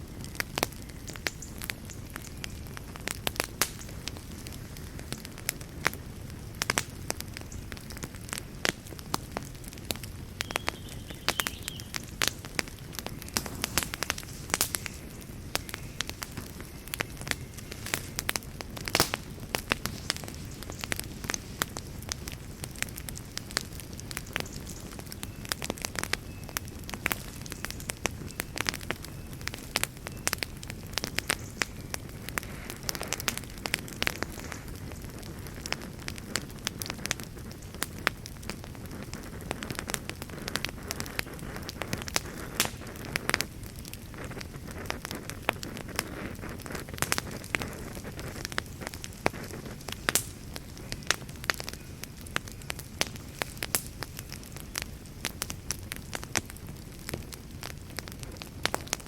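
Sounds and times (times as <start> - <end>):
low rush of flame: 0.0 - 59.0
wood fire crackling: 0.0 - 59.0.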